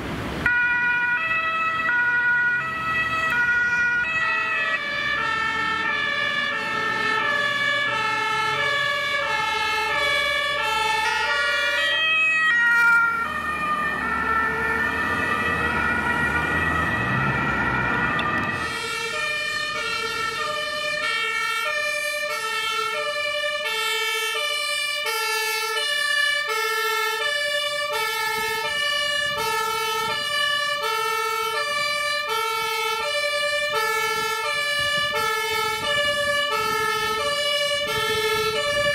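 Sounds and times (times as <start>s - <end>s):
engine and traffic rumble: 0.0s - 38.9s
two-tone ambulance siren: 0.4s - 38.9s.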